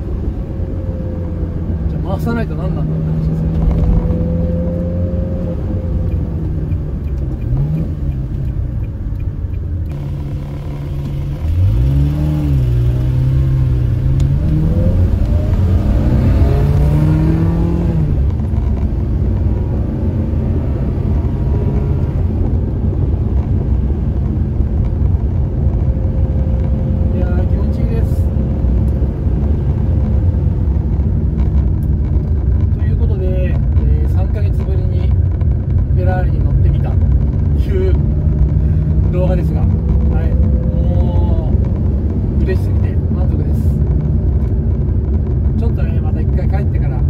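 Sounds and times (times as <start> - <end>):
car engine from inside cabin: 0.0 - 47.0.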